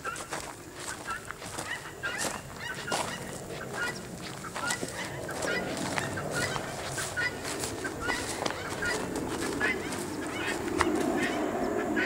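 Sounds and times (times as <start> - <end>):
footsteps on gravel and grass: 0.0 - 11.5
poultry honking calls: 0.0 - 12.0.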